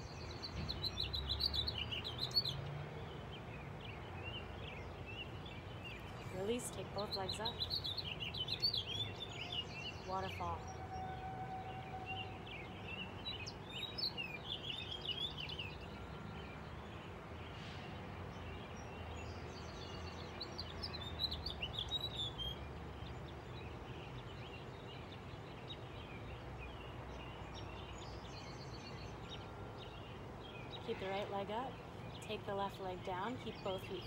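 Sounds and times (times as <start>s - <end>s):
birds chirping and trilling: 0.0s - 34.0s.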